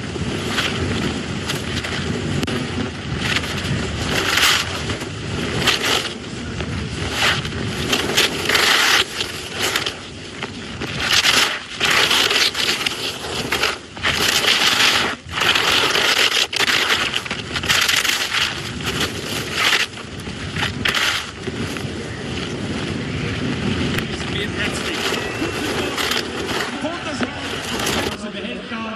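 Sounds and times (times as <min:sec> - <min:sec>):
ski edges scraping snow: 0:00.0 - 0:28.9.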